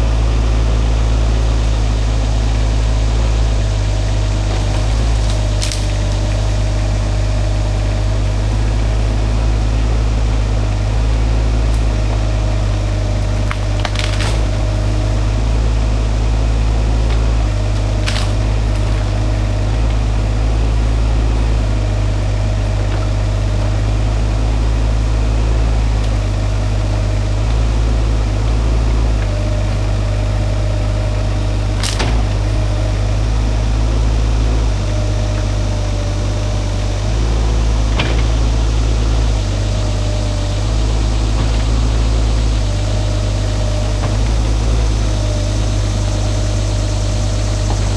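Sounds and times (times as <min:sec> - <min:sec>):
excavator engine humming: 0:00.0 - 0:47.9
wood splitting cracks: 0:03.6 - 0:47.9.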